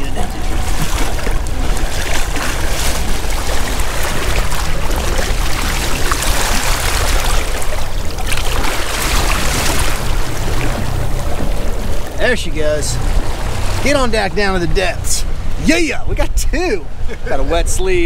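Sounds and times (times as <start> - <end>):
low rumble: 0.0 - 17.0
water splashing against boat: 0.0 - 18.0.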